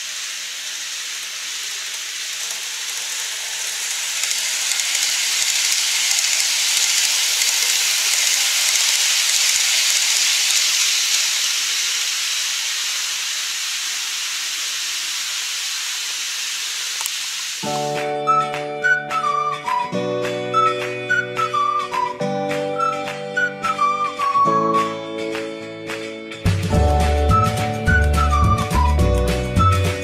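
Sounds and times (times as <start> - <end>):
model train whirring on track: 0.0 - 24.9, 26.6 - 30.0.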